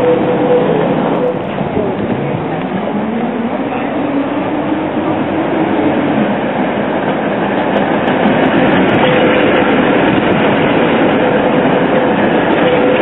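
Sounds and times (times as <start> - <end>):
trams rolling past: 0.0 - 13.0.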